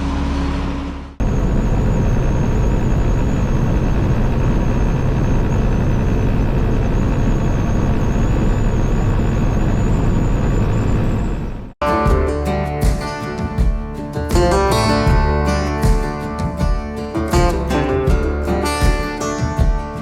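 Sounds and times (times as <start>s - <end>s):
diesel truck engine rumbling: 0.0s - 20.0s.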